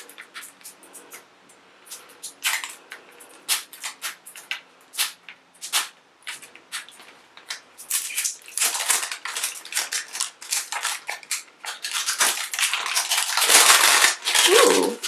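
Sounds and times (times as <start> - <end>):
plastic wrapping being torn: 1.9 - 15.0.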